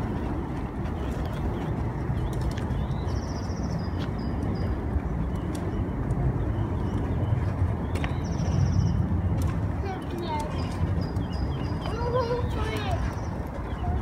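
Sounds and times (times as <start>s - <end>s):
plastic wheels rolling on concrete: 0.0s - 14.0s.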